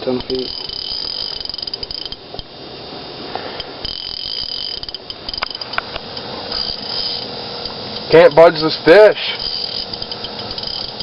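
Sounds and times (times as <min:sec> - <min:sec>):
fishing reel clicking: 0:00.0 - 0:02.5, 0:03.4 - 0:11.0
sharp ticks: 0:00.0 - 0:02.5, 0:03.6 - 0:08.5, 0:09.3 - 0:11.0.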